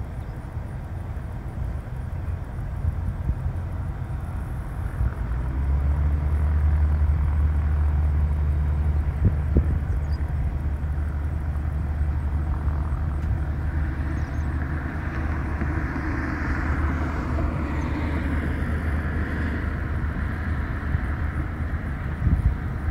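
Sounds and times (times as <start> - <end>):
small plane engine drone: 0.0 - 22.9
steady low rumble: 0.0 - 22.9.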